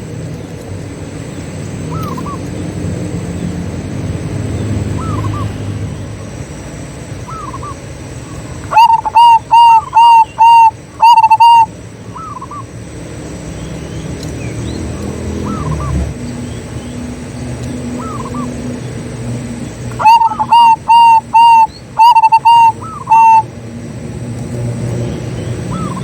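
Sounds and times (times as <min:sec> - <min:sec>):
doves cooing: 0:00.8 - 0:26.0.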